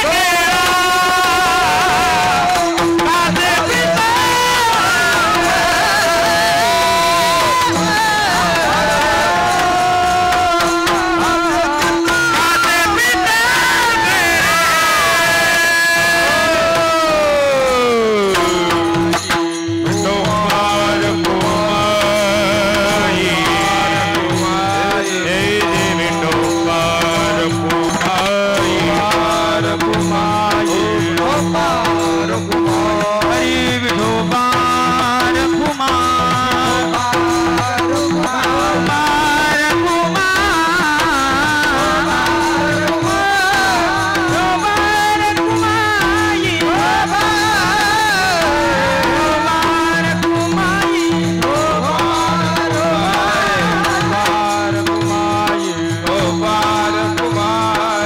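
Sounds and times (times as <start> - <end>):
tabla drums: 0.0 - 58.0.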